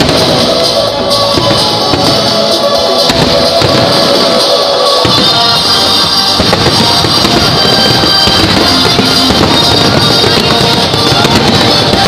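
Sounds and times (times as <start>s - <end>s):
fireworks bursting and crackling: 0.0s - 12.0s
loud music: 0.0s - 12.0s.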